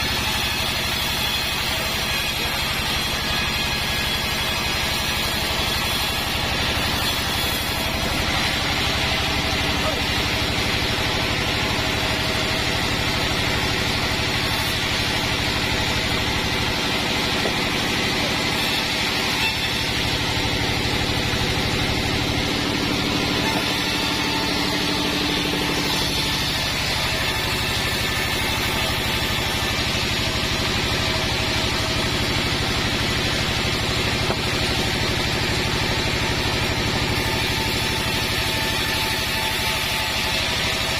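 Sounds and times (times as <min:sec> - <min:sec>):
sawmill bandsaw machinery running: 0:00.0 - 0:40.9.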